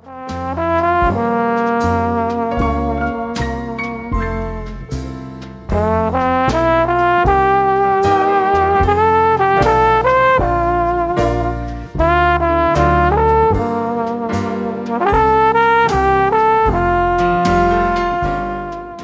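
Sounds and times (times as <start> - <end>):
melody of held notes over a beat: 0.1 - 19.0.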